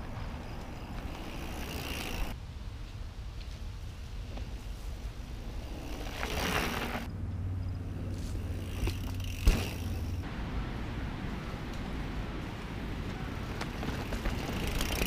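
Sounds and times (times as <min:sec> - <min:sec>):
bike tyres on dirt trail: 0:00.0 - 0:15.0.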